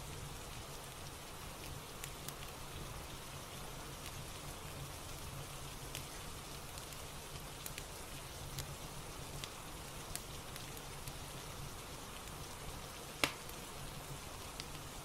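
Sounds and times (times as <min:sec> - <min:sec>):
fireplace crackling: 0:00.0 - 0:15.0
steady rain: 0:00.0 - 0:15.0.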